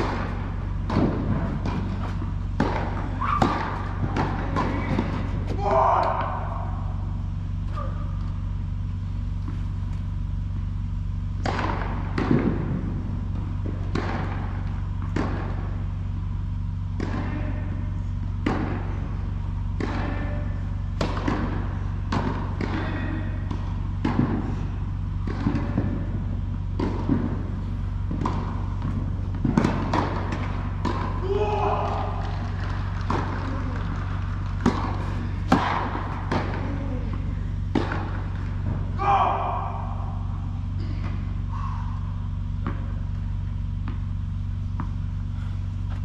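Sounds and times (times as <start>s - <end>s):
balls bouncing on hard court: 0.0s - 46.0s
steady low hum: 0.0s - 46.0s
tennis balls hit with rackets: 0.0s - 46.0s.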